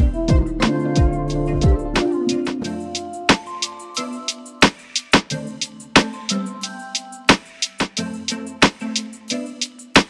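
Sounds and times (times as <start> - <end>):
drum beat over sustained chords: 0.0 - 10.0.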